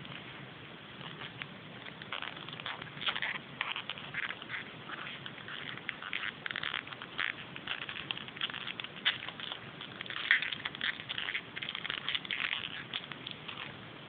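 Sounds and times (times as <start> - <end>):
foil and plastic crinkling: 1.0 - 13.8.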